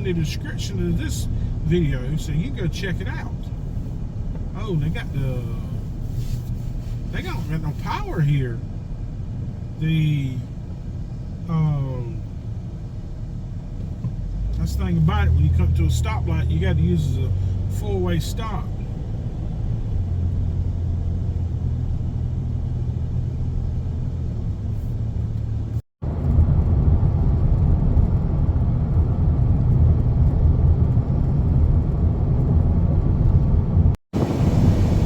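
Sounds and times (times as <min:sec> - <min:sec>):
road and engine rumble in van: 0:00.0 - 0:35.0.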